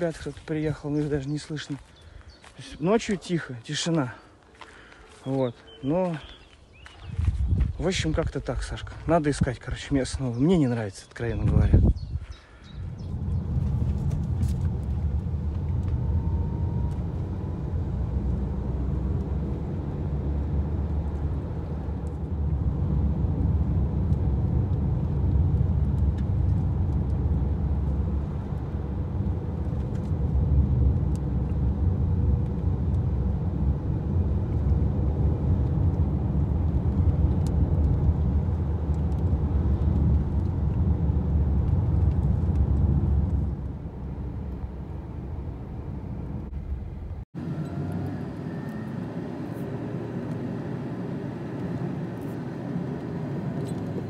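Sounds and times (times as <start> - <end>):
low rumble of moving vehicle: 4.0 - 54.0.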